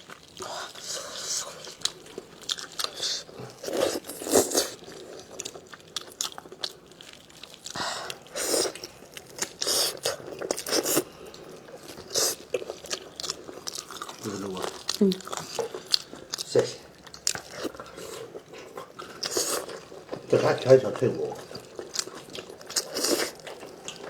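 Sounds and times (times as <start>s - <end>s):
chewing meat with wet crunches: 0.0s - 24.0s.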